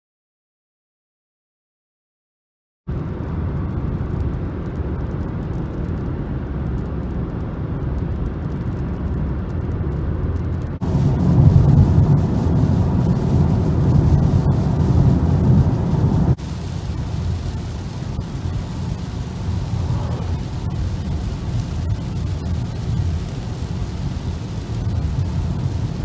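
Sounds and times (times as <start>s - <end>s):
car road and engine rumble: 2.9s - 26.0s
driving on wet road in rain: 2.9s - 26.0s.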